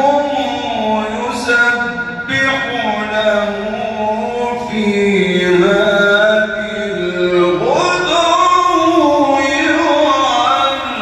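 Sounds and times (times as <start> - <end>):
man chanting recitation: 0.0 - 11.0.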